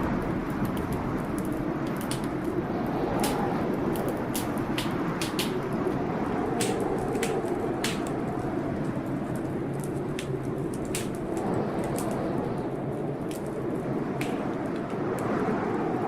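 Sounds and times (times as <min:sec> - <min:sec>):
fireplace fire crackling: 0:00.0 - 0:16.0
storm rushing noise: 0:00.0 - 0:16.0.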